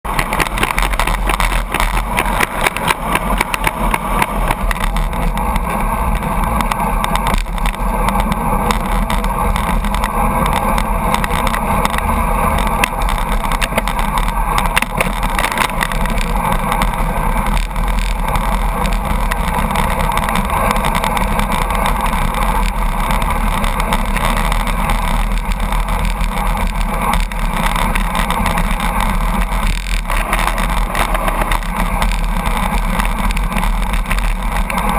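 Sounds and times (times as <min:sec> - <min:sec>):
truck rumbling: 0:00.0 - 0:34.9
wind and road noise: 0:00.0 - 0:34.9.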